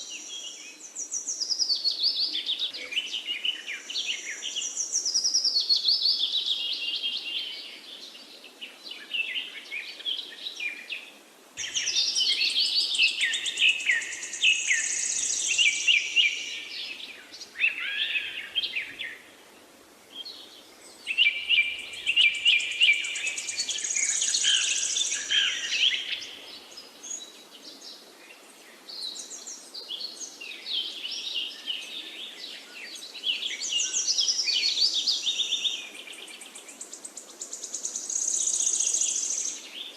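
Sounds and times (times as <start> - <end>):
forest birds singing: 0.0 - 39.9.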